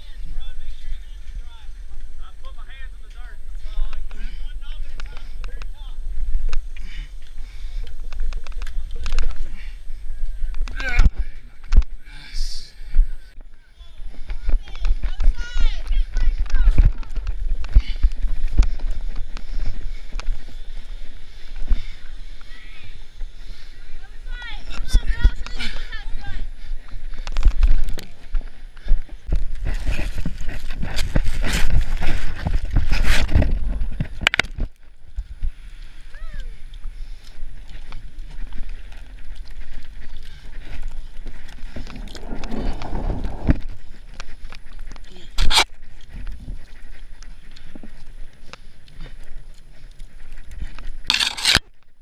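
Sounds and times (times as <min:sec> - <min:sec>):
wind on microphone: 0:04.9 - 0:51.7.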